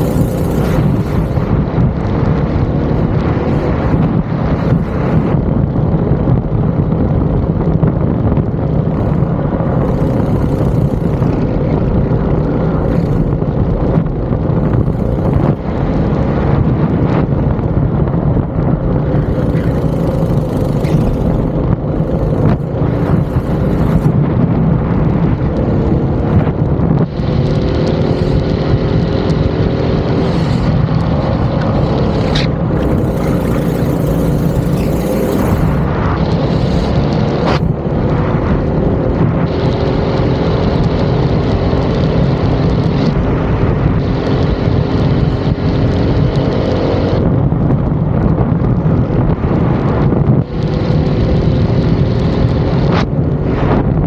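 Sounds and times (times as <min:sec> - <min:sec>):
go-kart engine running hard: 0:00.0 - 0:54.0
wind noise on microphone: 0:00.0 - 0:54.0.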